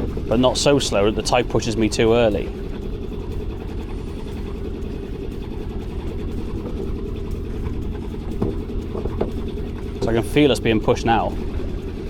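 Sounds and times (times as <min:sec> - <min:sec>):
boat engine running at low revs: 0:00.0 - 0:12.0.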